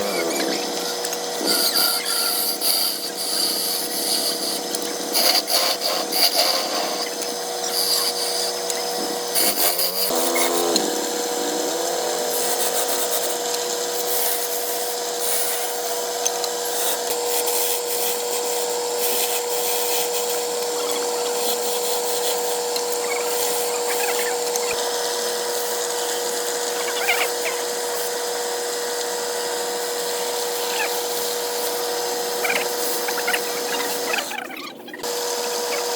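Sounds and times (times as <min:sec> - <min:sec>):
wood lathe running: 0:00.0 - 0:35.9.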